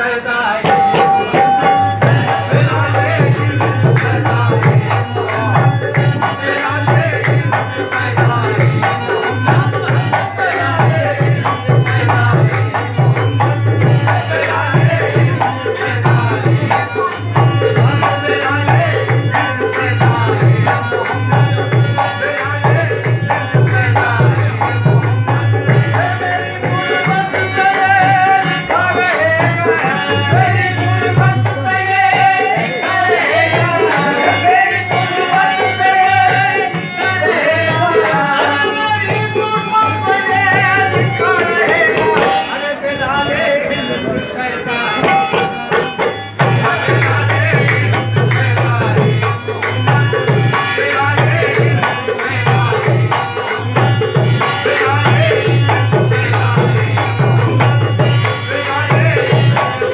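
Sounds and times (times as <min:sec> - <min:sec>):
men singing: 0:00.0 - 0:59.9.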